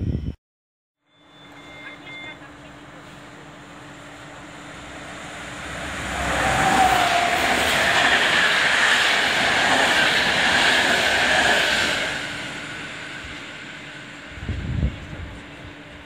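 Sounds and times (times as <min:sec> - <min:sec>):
train wheels rumbling on rail: 0:01.5 - 0:16.0.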